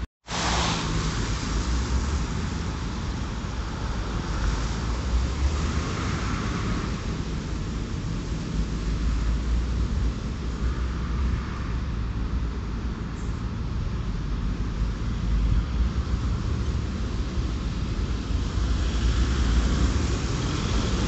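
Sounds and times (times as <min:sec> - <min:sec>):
road traffic noise: 0:00.0 - 0:21.0
wind buffeting microphone: 0:00.7 - 0:21.0.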